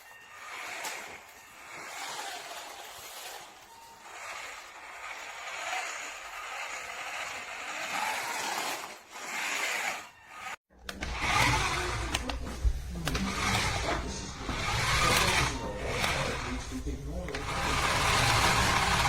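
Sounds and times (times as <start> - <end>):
toy truck motor and gears whirring: 0.0 - 19.0.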